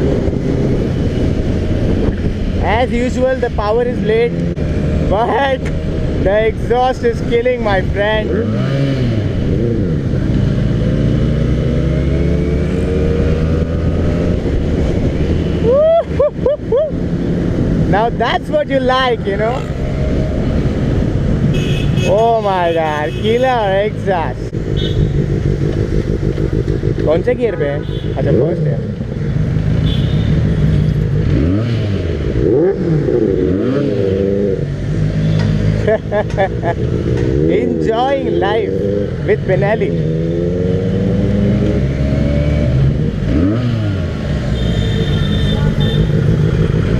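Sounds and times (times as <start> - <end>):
motorcycle engine accelerating: 0.0 - 15.8, 23.7 - 46.9.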